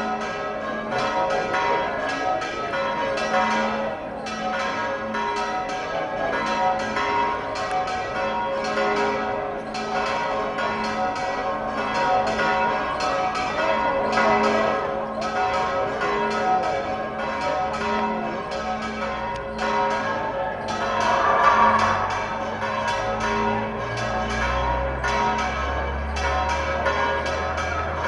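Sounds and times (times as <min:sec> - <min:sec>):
church bells pealing: 0:00.0 - 0:28.0.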